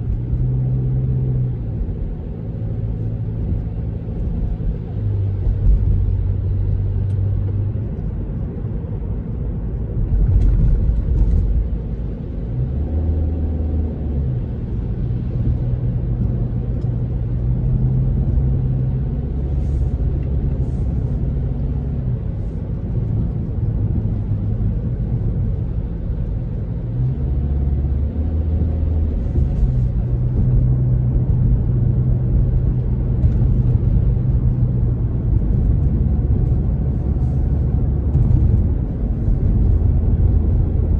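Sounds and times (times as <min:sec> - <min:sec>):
car engine hum: 0:00.0 - 0:40.9
tyres rumbling on wet road: 0:00.0 - 0:40.9.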